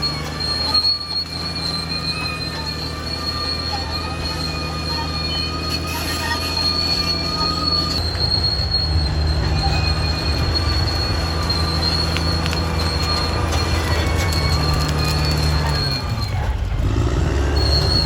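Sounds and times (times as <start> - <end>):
bulldozer diesel engine rumbling: 0.0 - 18.0
steel tracks squealing: 0.0 - 18.0.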